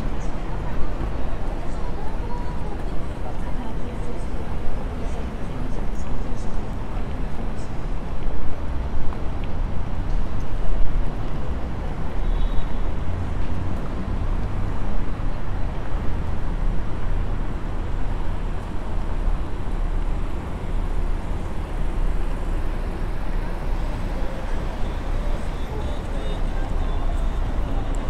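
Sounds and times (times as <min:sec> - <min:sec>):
rumble of passing cars: 0:00.0 - 0:28.0.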